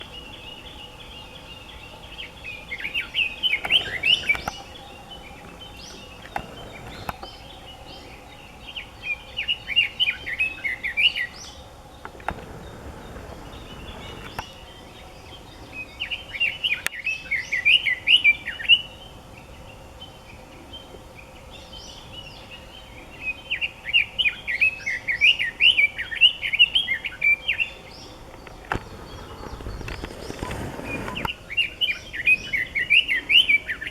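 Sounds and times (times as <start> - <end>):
bird warbling song: 0.0 - 33.9.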